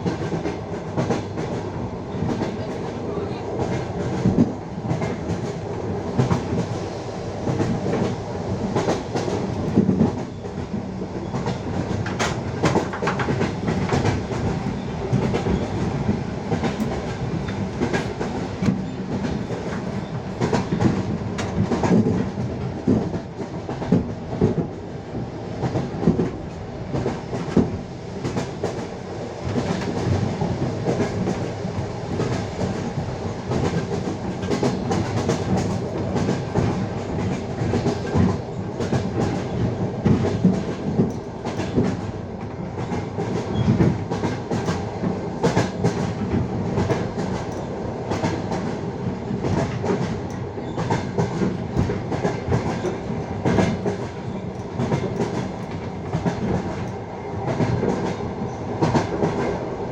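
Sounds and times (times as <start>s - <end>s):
train running rumble: 0.0s - 59.9s
train wheels clattering over rail joints: 7.5s - 24.8s, 25.6s - 59.6s.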